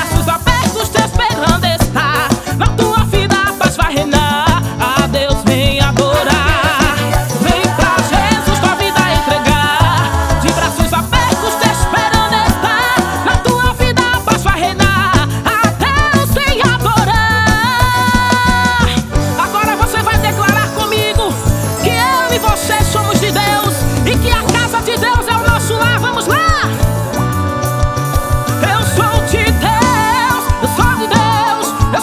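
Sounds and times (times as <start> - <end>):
bass and drum beat: 0.0 - 32.0
wavering lead melody: 4.6 - 32.0.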